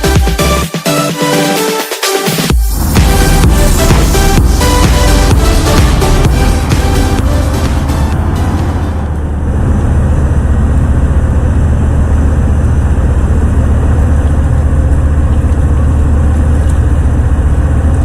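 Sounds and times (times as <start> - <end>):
engine room machinery droning: 2.4 - 18.0.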